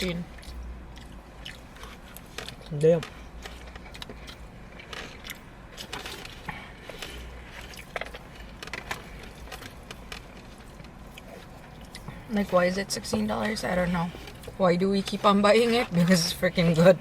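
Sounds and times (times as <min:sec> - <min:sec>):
low steady hum: 0:00.0 - 0:17.0
chewing: 0:00.1 - 0:17.0.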